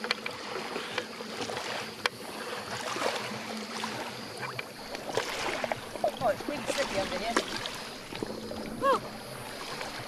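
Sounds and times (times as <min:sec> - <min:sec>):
shallow water splashing: 0:00.0 - 0:10.0.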